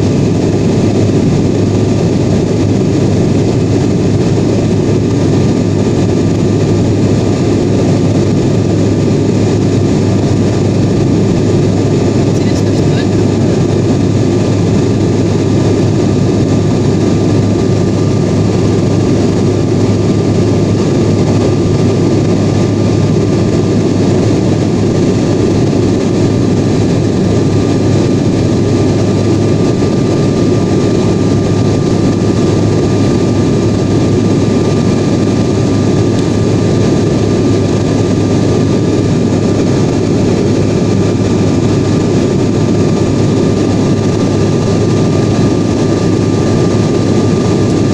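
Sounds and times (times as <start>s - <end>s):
airliner cabin engine drone: 0.0s - 47.9s.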